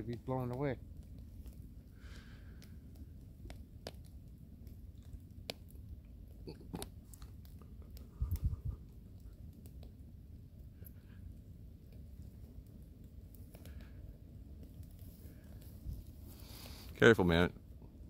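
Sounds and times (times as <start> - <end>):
low fire rumble: 0.0 - 18.0
wood fire crackling and popping: 0.0 - 18.0.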